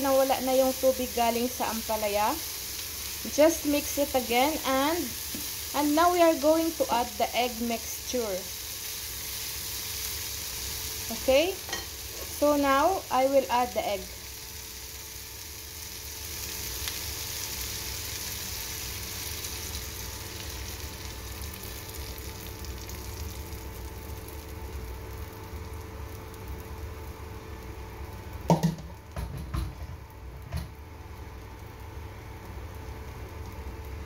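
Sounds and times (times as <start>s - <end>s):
egg sizzling in a pan: 0.0s - 34.0s.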